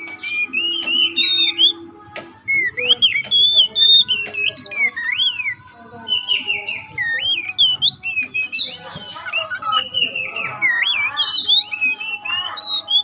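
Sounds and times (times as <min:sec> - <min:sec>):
bird singing whistled notes: 0:00.0 - 0:13.0.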